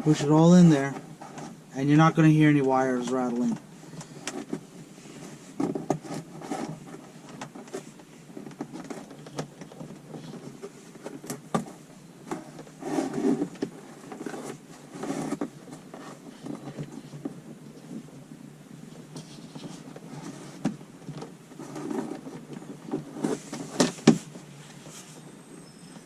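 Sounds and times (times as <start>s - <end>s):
wire rustling and scraping: 0.0s - 26.0s.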